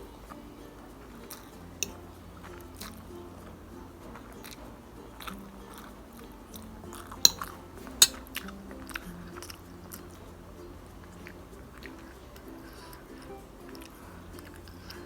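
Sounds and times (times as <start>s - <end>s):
chewing noodles: 0.0s - 15.0s
quiet background music: 0.0s - 15.0s.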